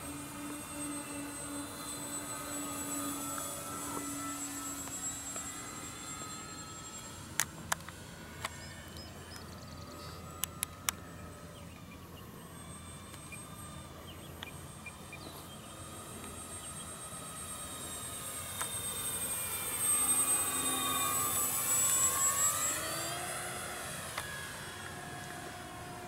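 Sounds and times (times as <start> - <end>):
model plane motors whining: 0.0 - 26.0.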